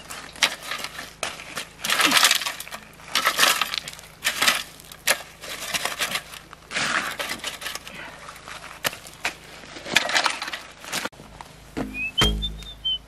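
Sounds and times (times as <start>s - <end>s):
gravel crunching and clinking: 0.0s - 12.8s.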